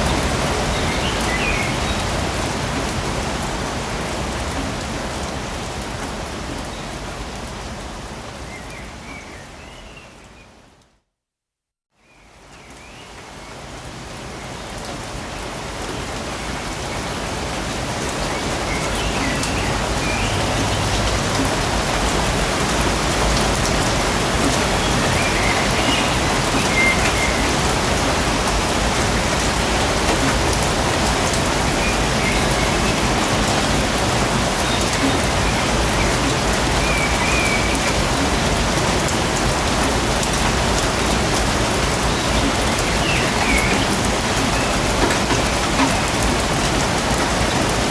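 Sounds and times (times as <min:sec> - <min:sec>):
steady rain in a forest: 0:00.0 - 0:11.3, 0:11.9 - 0:47.9.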